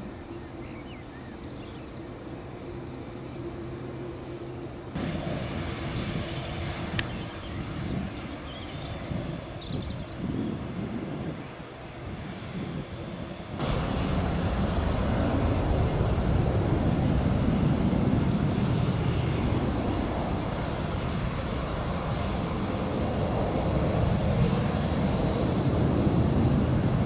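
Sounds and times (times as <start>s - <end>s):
high jet engine whine: 0.0s - 27.0s
jet engine rumble: 0.0s - 27.0s.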